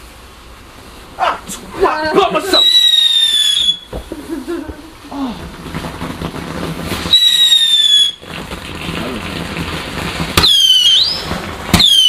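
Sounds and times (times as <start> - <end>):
firework crack: 0.0 - 12.0
whistling fireworks: 1.5 - 12.0.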